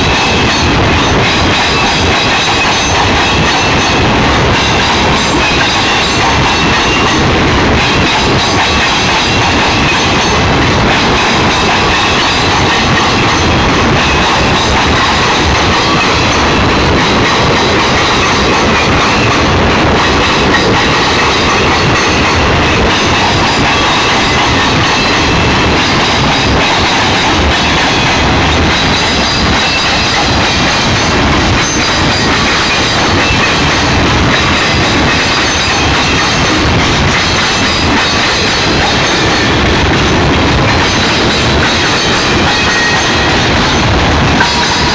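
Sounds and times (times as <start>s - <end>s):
wheels clacking over rail joints: 0.0s - 44.9s
wheels squealing on rails: 0.0s - 44.9s.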